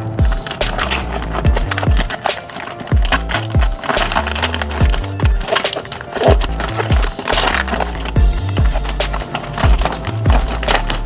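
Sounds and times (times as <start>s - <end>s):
kick drums and bass: 0.0s - 2.2s, 3.0s - 5.4s, 6.3s - 11.0s.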